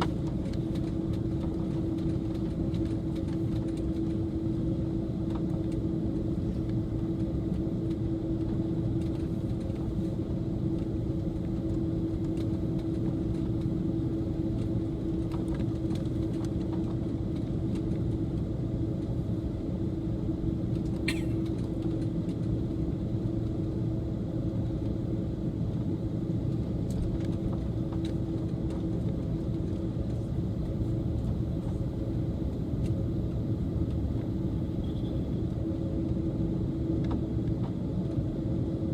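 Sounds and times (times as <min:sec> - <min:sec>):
aircraft cabin rumble: 0:00.0 - 0:38.9.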